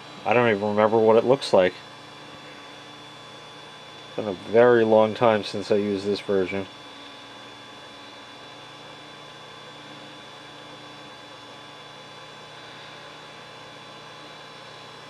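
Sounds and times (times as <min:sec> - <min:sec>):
computer fans humming: 0:00.0 - 0:15.0
faint high whine: 0:00.0 - 0:15.0.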